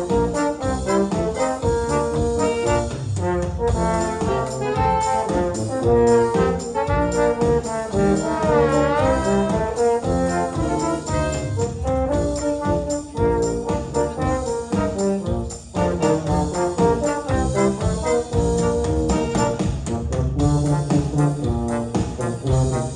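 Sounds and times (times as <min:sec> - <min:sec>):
brass orchestra playing a hymn: 0:00.0 - 0:22.9.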